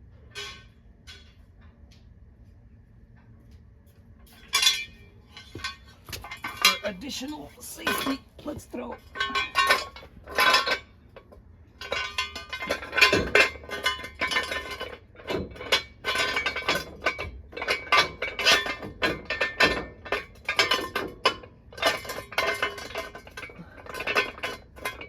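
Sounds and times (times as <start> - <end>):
metallic clinking and scraping: 0.3 - 1.7, 3.9 - 25.0.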